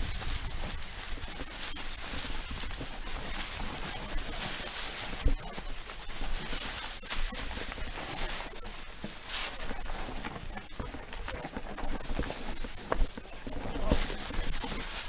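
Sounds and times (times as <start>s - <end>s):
bike chain and frame rattling: 0.0s - 15.0s
tyres crunching over stones: 0.0s - 15.0s
wind rumbling on microphone: 0.0s - 15.0s.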